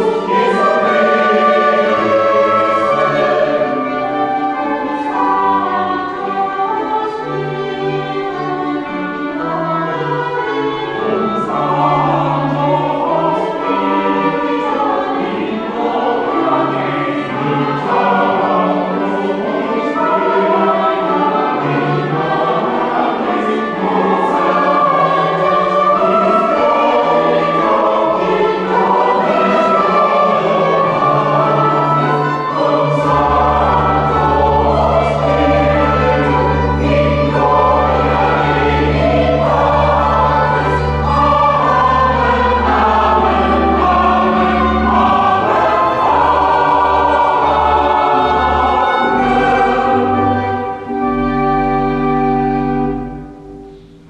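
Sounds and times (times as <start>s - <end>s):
church choir singing: 0.0s - 54.0s
organ playing: 0.0s - 54.0s.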